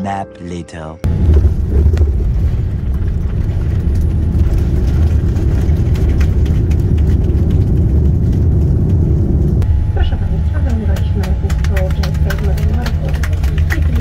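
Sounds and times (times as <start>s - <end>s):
jet engines and wheels rumbling: 1.0s - 14.0s.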